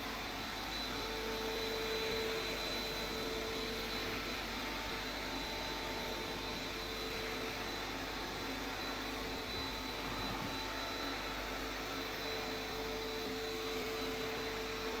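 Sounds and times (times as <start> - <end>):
vacuum cleaner on carpet: 0.0 - 15.0.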